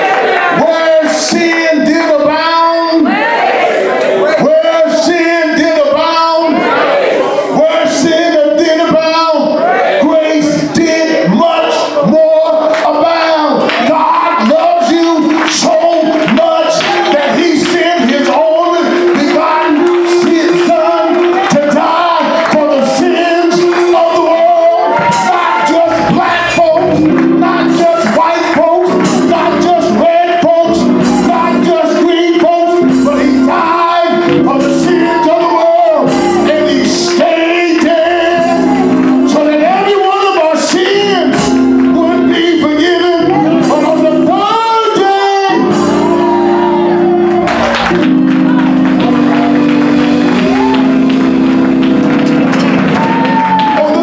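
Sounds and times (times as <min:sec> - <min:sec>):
man chanting into microphone: 0:00.5 - 0:03.1, 0:04.2 - 0:06.6, 0:07.5 - 0:45.8
sustained keyboard chords: 0:04.0 - 0:54.0.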